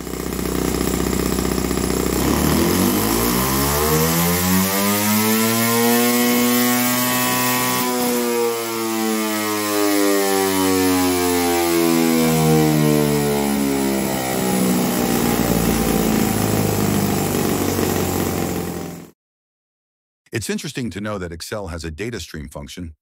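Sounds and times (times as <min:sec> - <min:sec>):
model engine revving: 0:00.0 - 0:19.1.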